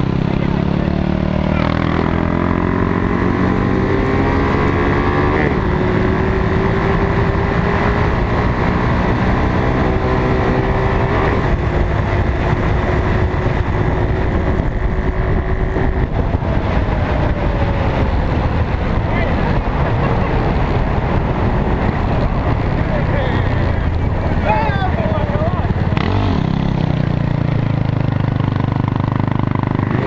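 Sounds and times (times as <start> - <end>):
wind noise on microphone: 1.3 - 30.0.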